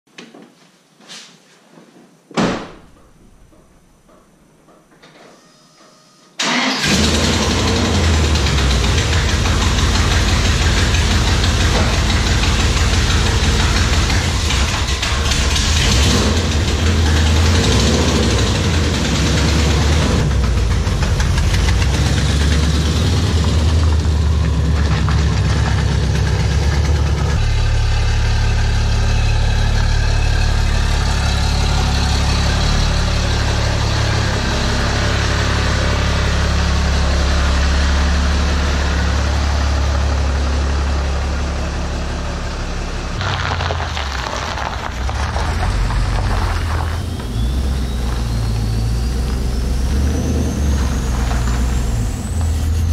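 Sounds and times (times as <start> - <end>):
pickup truck engine idling: 6.4 - 52.9.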